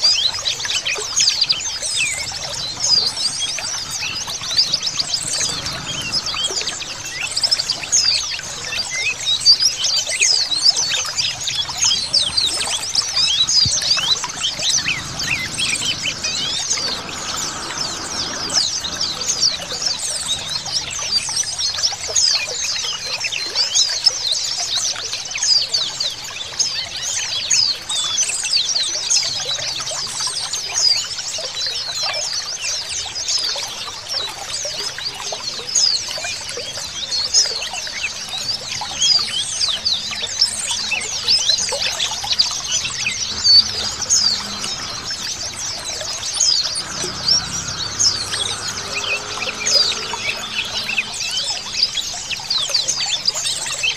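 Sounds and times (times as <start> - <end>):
birds twittering in chorus: 0.0 - 24.7, 34.6 - 53.9.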